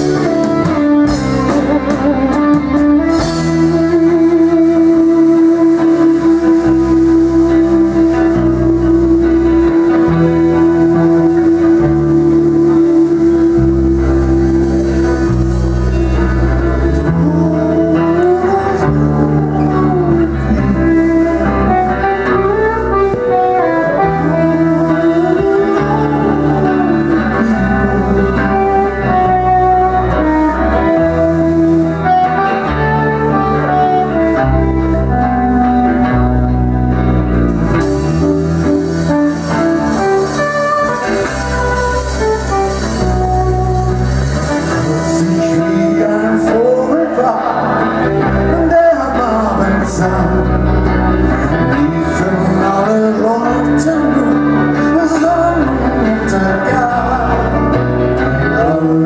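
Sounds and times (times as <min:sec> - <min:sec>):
lead guitar bending notes: 0:00.0 - 0:59.0
live rock band playing: 0:00.0 - 0:59.0.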